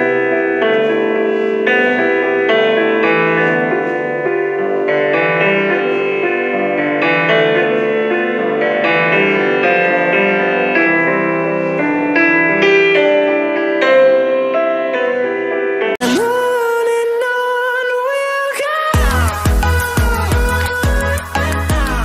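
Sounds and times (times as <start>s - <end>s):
instrumental music: 0.0s - 22.0s.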